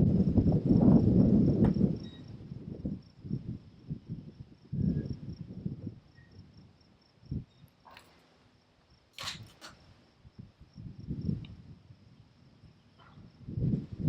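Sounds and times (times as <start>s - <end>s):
wind buffeting microphone: 0.0s - 8.0s, 9.2s - 14.0s.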